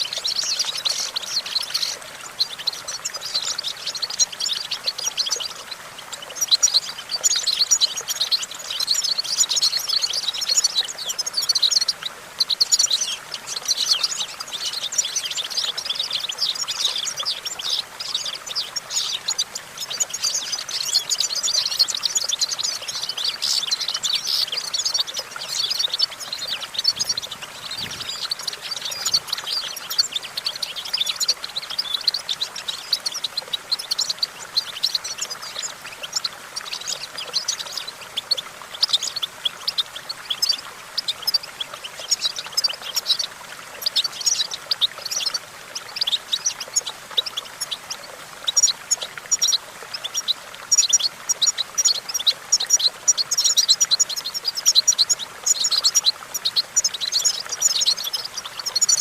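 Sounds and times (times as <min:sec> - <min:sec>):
goldfinch singing: 0:00.0 - 0:59.0.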